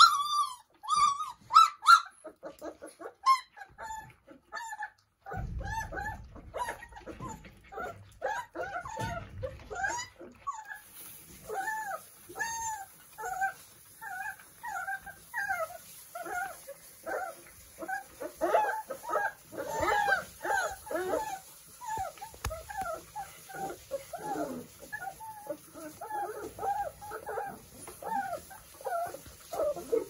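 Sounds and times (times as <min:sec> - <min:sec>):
puppies whining and squeaking: 0:00.0 - 0:30.0.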